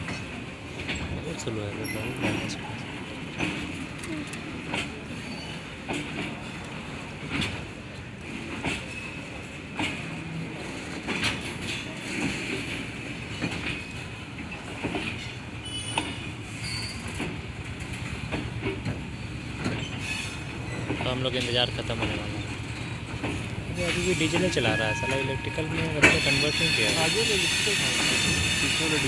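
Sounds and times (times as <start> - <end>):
freight wagons rumbling: 0.0 - 29.0
wheels clacking over rail joints: 0.0 - 29.0.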